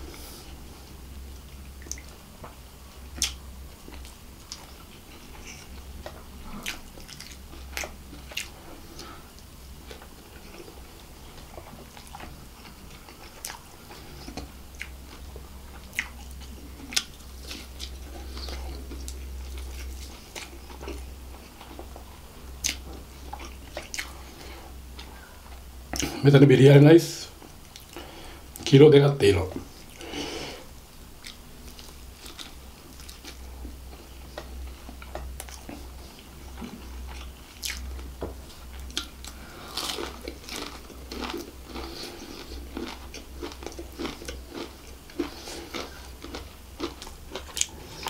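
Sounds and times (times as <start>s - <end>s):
crunchy chewing: 0.1s - 26.2s, 31.2s - 48.0s.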